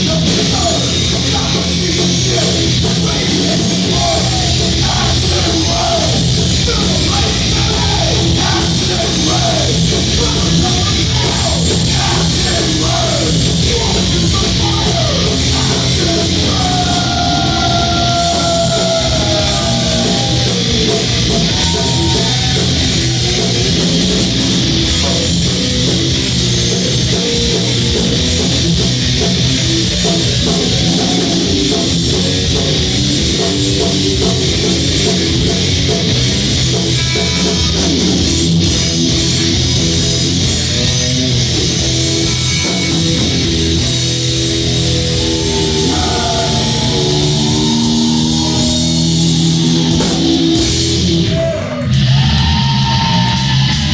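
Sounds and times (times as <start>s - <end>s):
thrash band playing live: 0.0s - 53.9s.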